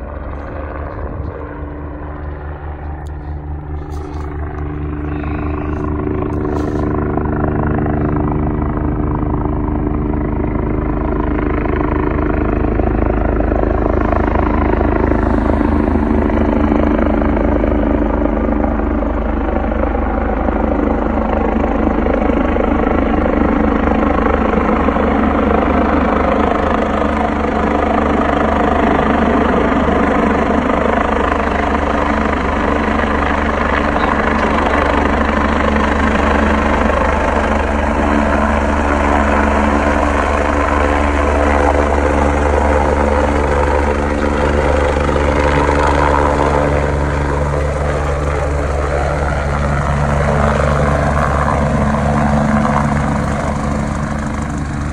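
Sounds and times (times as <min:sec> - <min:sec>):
helicopter rotor and turbine: 0:00.0 - 0:54.9.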